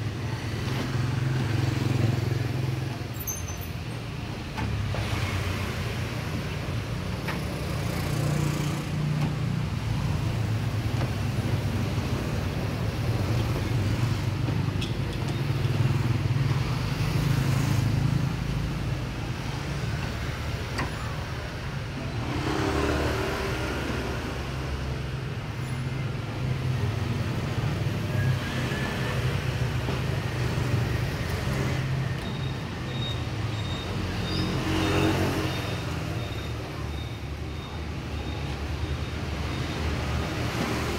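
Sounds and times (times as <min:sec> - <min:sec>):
street traffic rumble: 0:00.0 - 0:40.9
vehicles passing: 0:00.0 - 0:40.9.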